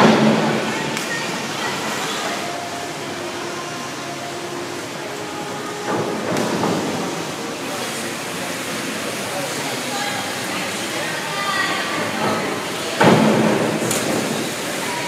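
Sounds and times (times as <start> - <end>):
indoor pool hall noise: 0.0 - 15.0.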